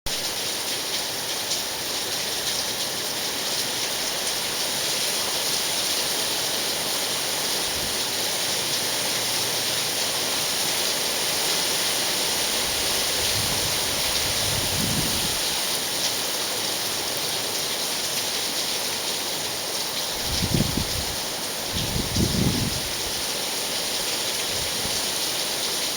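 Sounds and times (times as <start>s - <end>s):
rain falling: 0.1s - 25.9s.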